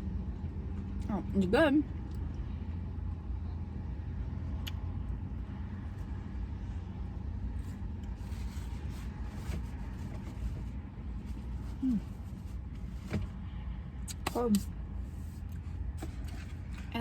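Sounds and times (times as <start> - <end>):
car rumble from inside cabin: 0.0 - 17.0.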